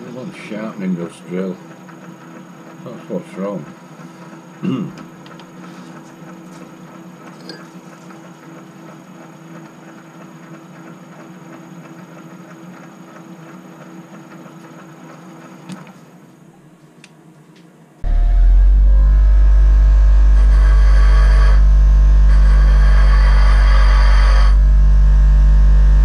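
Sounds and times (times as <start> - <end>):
metal lathe humming: 0.0 - 15.7, 18.0 - 24.9.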